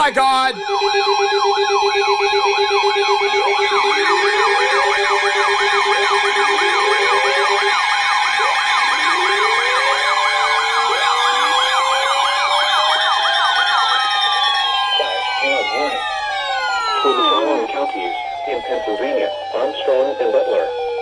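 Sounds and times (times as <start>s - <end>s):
rapid beeping: 0.0s - 21.0s
rising wails: 0.0s - 21.0s
steady alert tones: 0.0s - 21.0s
warbling siren: 0.0s - 21.0s.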